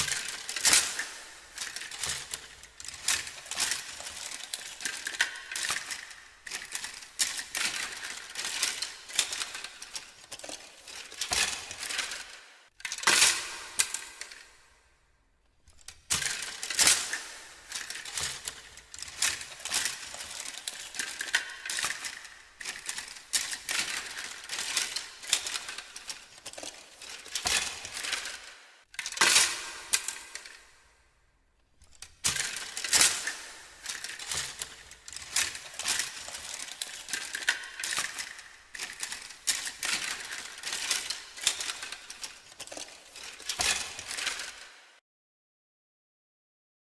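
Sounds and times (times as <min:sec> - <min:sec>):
small hard objects clattering: 0:00.0 - 0:14.5, 0:15.7 - 0:30.6, 0:31.8 - 0:44.7.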